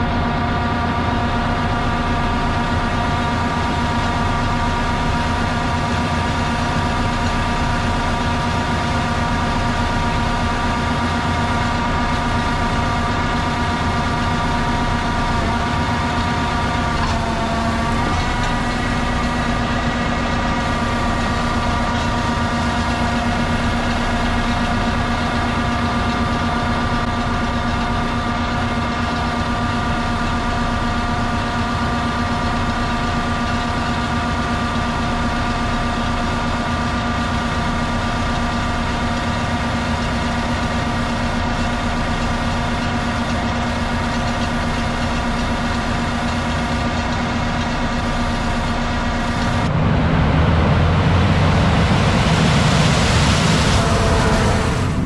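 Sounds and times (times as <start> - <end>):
diesel engine humming with whine: 0.0 - 55.0.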